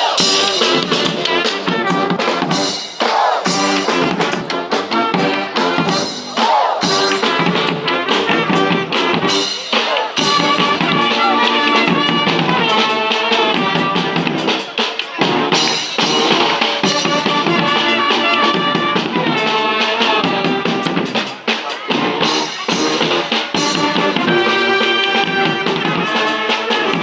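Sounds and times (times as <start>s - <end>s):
brass band playing: 0.0s - 27.0s
drums: 0.0s - 27.0s
horns playing melody: 0.0s - 27.0s.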